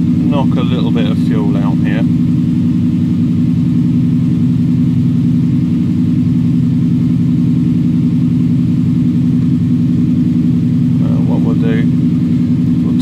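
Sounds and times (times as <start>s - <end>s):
car engine fast-idling: 0.0s - 13.0s.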